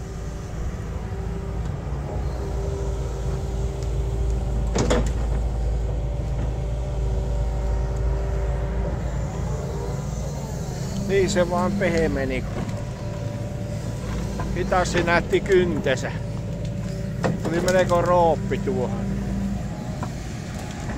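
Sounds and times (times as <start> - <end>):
excavator diesel engine running: 0.0 - 20.9
steady whine: 0.0 - 20.9.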